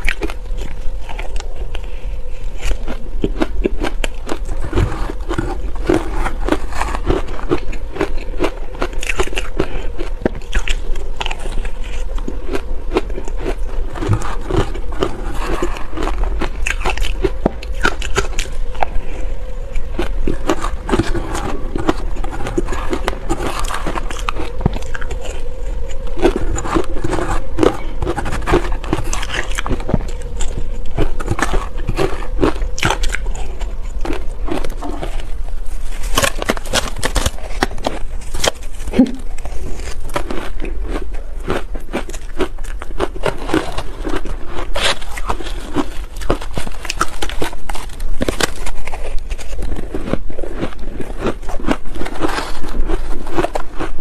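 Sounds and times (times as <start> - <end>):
ice crunching while chewed: 0.0 - 54.0.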